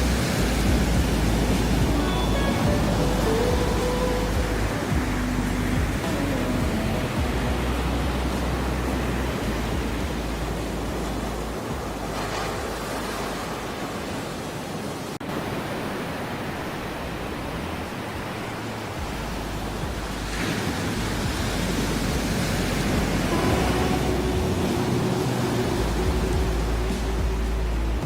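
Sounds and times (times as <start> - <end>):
ocean waves washing: 0.0 - 28.0.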